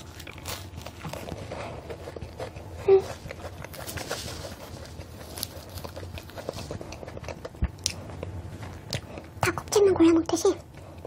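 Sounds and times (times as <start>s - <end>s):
croissant crust crunching: 0.0s - 9.3s.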